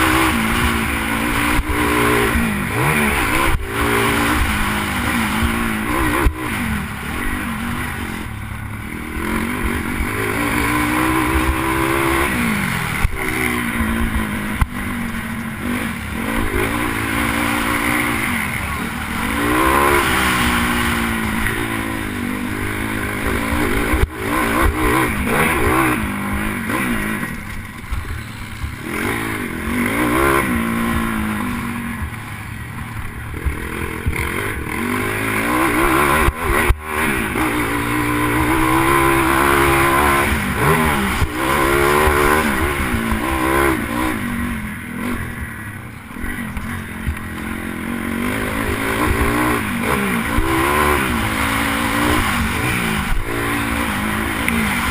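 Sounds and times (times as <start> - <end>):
motorbike engine revving: 0.0 - 54.9.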